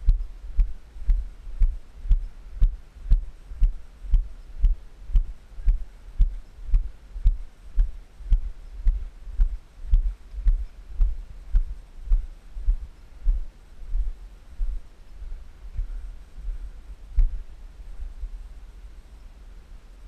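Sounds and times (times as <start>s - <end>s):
footsteps walking: 0.0s - 17.4s.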